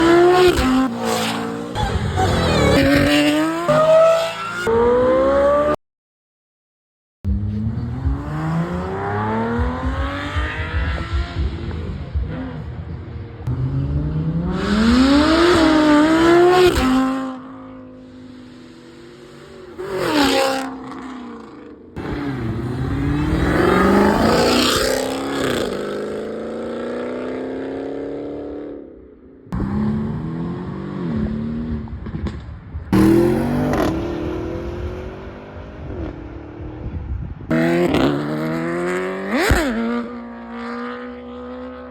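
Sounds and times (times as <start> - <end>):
sports car engines revving: 0.0 - 5.8, 7.3 - 28.6, 29.5 - 41.9.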